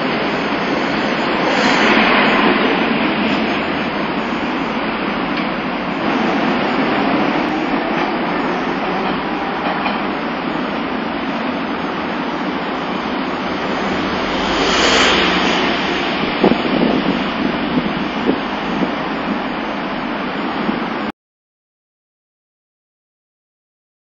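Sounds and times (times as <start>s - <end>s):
street noise: 0.0s - 21.1s
streetcar passing: 0.0s - 21.1s.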